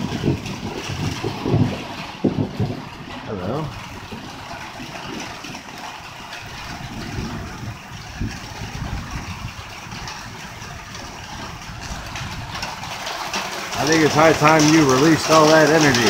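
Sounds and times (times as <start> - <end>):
low rumble: 0.0 - 15.2
heavy rain falling: 0.0 - 16.0.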